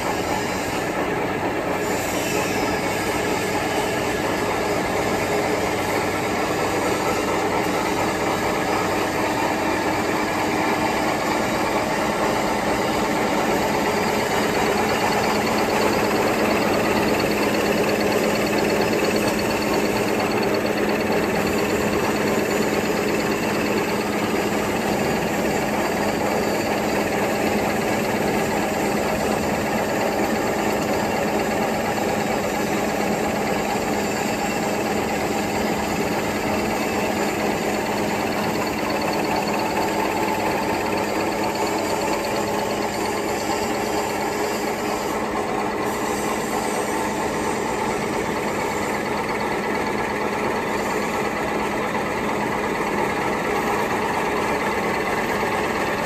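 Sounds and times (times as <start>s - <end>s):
paper folding machine running: 0.1s - 56.0s.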